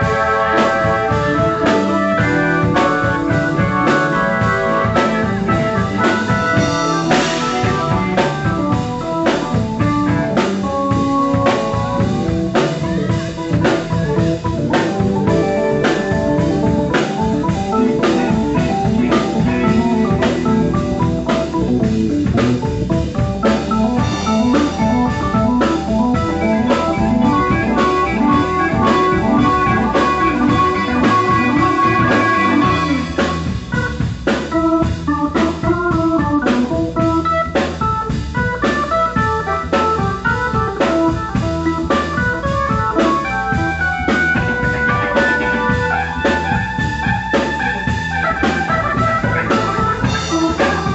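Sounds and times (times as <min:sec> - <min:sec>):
drum kit steady beat: 0:00.0 - 0:50.9
electric guitar: 0:00.0 - 0:50.9
organ: 0:00.0 - 0:50.9.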